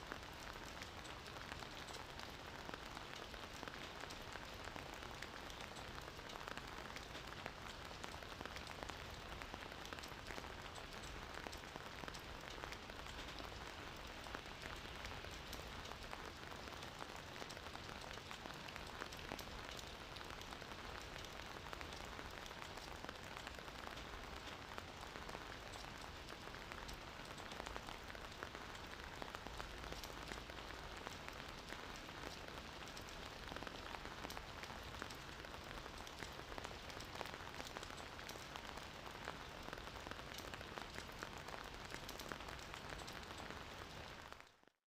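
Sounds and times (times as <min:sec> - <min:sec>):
gentle rain falling: 0:00.0 - 0:44.8.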